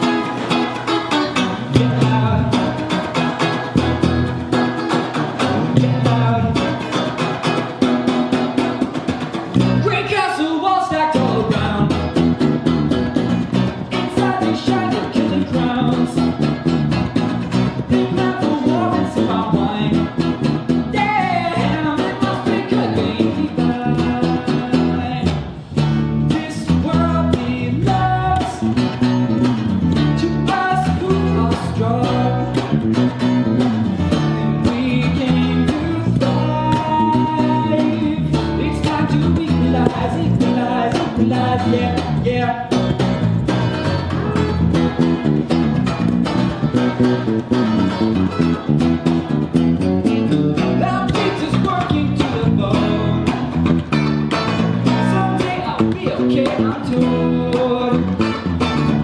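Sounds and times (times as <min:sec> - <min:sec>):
live rock band playing: 0:00.0 - 0:10.1, 0:11.2 - 0:59.0.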